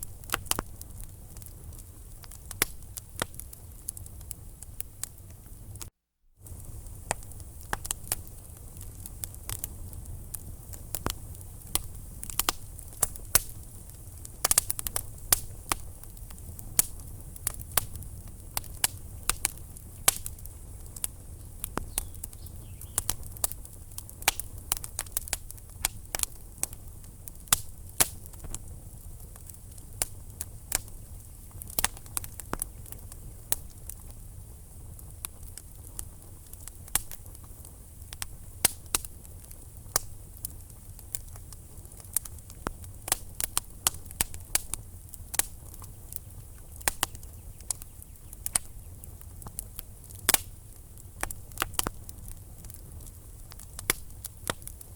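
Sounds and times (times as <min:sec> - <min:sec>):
low rumble of flames: 0:00.0 - 0:54.9
wood fire pops and snaps: 0:00.0 - 0:54.9.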